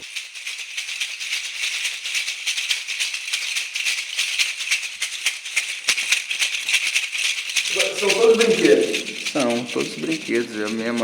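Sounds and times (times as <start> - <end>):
hand rattle shaken: 0.0 - 11.0.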